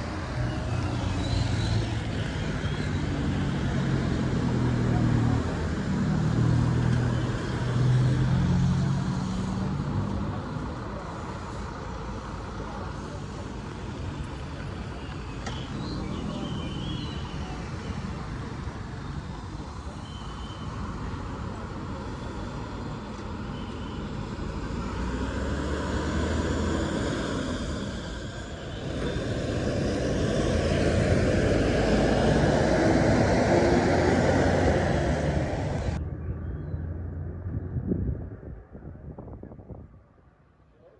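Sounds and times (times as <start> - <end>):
engine hum: 0.0 - 39.9
vehicles passing by: 0.0 - 40.9.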